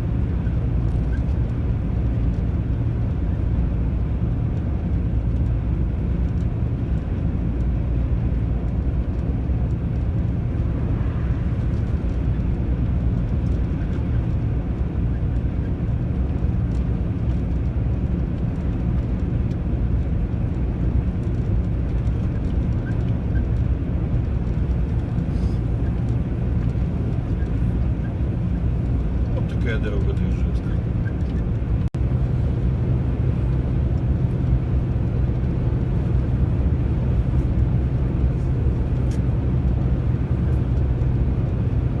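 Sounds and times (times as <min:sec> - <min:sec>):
truck engine and road noise: 0:00.0 - 0:42.0.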